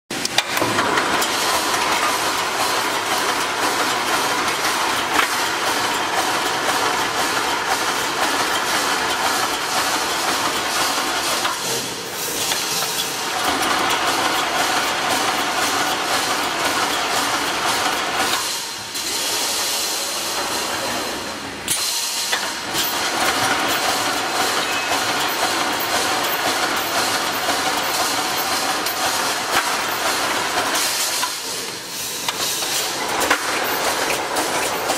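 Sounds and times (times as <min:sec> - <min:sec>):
welding machine clatter: 0:00.1 - 0:34.9.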